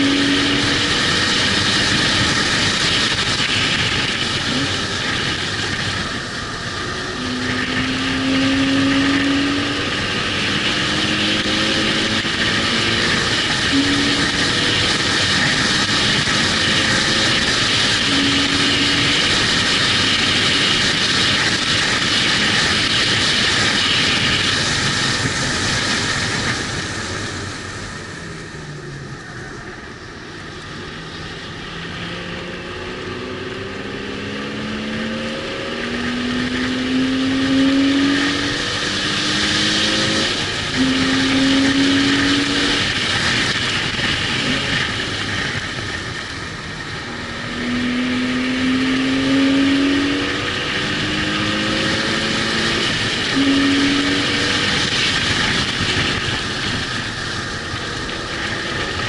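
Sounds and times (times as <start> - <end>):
car engine accelerating through gears: 0.0 - 59.0
wind and road noise: 0.0 - 59.0.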